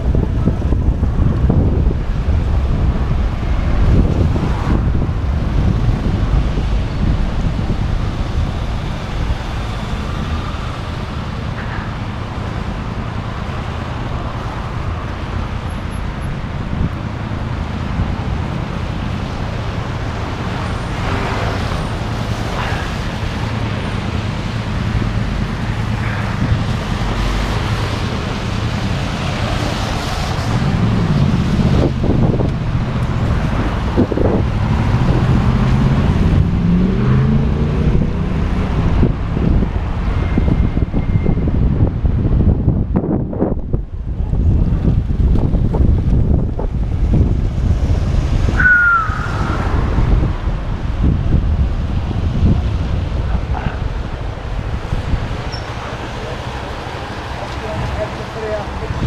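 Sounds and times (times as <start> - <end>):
wavering engine: 0.0 - 42.6, 43.5 - 59.0
passing motor vehicles rumbling: 0.0 - 59.0
wind buffeting microphone: 0.0 - 59.0.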